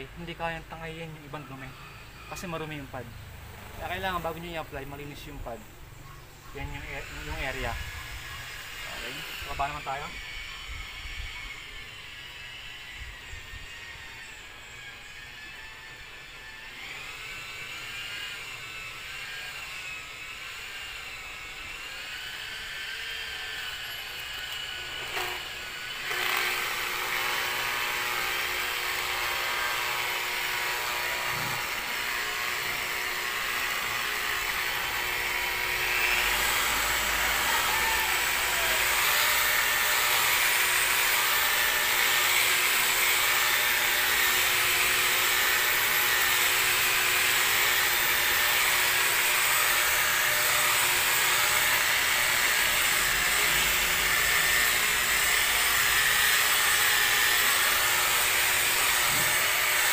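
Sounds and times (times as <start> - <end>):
electric polisher whine: 6.5 - 59.9.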